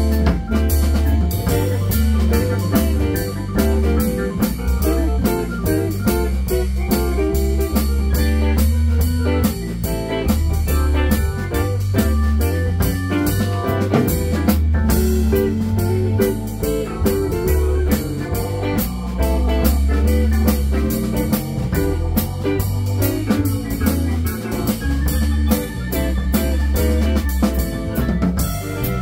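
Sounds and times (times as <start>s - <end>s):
drum kit: 0.0s - 29.0s
electric guitar: 0.0s - 29.0s
keyboards: 0.0s - 29.0s
low bass notes: 0.0s - 29.0s.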